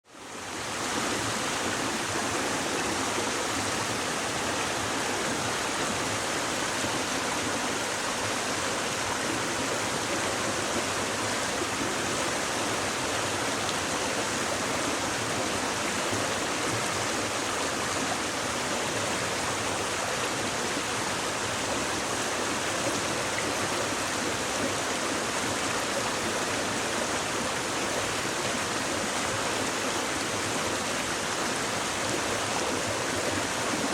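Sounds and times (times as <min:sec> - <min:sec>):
stream babbling: 0:00.1 - 0:33.9.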